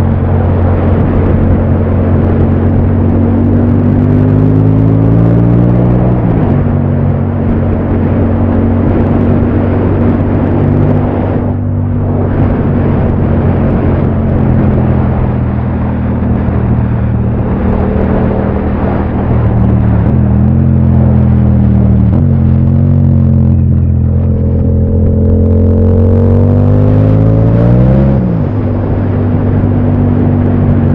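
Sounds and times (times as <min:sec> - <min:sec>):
motorcycle engine running: 0:00.0 - 0:30.9
wind rush over microphone: 0:00.0 - 0:30.9.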